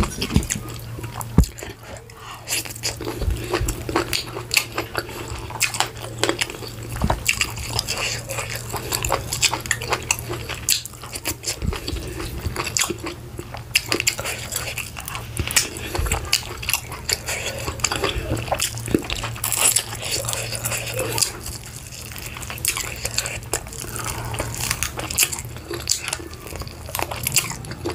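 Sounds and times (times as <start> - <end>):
person chewing food: 0.0 - 27.9
steady low hum: 0.0 - 27.9.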